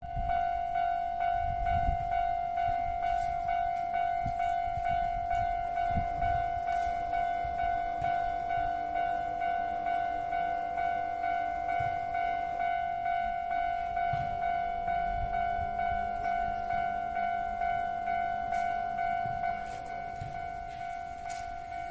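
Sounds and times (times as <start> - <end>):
level crossing bell clanging: 0.0 - 21.9.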